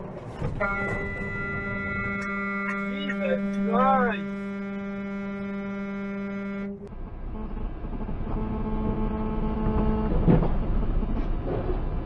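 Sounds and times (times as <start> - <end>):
road and engine rumble: 0.0 - 12.0
faint horn-like tone: 0.5 - 10.2
vehicle horn: 0.5 - 10.3.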